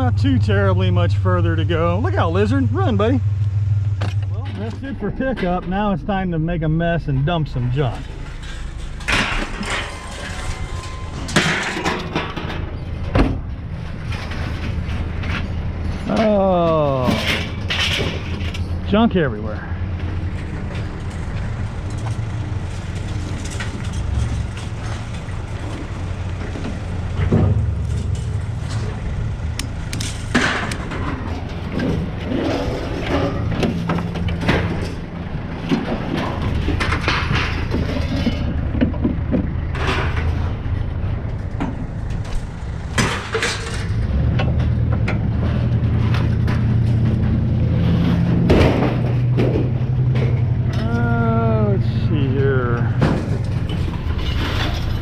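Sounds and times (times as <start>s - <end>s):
vehicle engine running: 0.0s - 55.0s
scrap metal clanking and banging: 3.9s - 55.0s.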